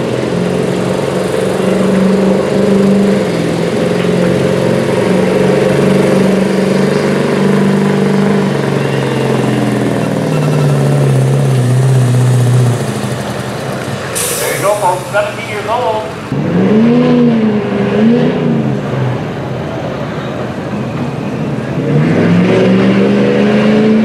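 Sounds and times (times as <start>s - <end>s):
diesel pickup truck engine: 0.0s - 24.0s.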